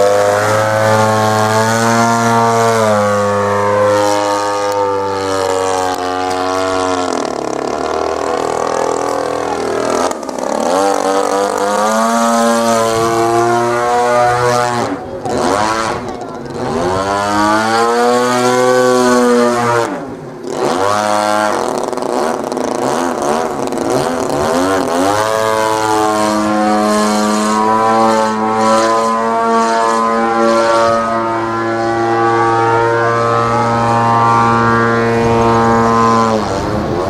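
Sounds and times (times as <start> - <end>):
model plane engine in flight: 0.0 - 37.0.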